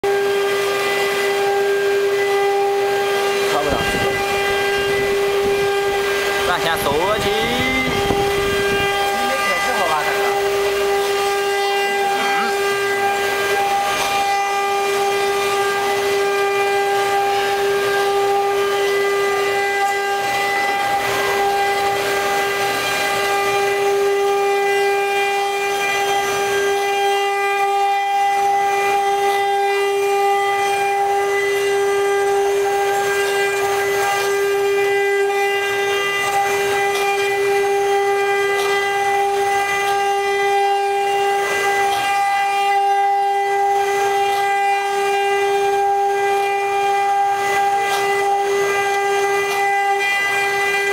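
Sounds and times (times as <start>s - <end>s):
cnc router high whine: 0.0s - 50.9s
router bits cutting wood hiss: 0.0s - 50.9s.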